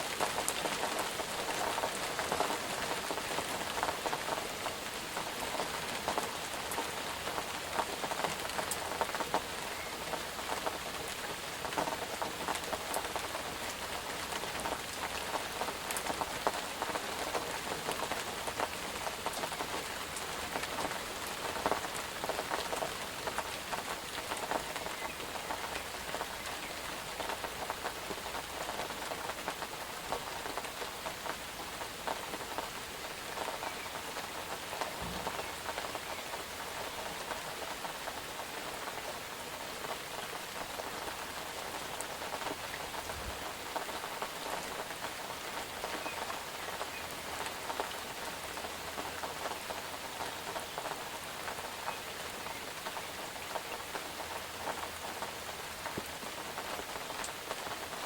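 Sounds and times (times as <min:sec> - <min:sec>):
rain on hard surface: 0:00.0 - 0:58.0.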